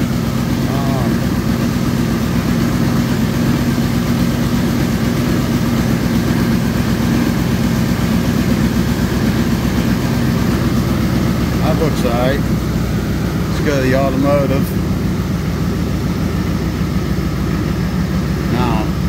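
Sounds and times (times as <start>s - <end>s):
loud engine idling: 0.0s - 19.0s.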